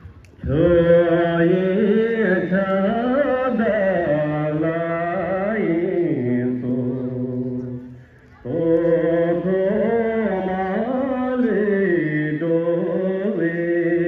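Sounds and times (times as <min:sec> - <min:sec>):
slow chanted singing: 0:00.0 - 0:14.0.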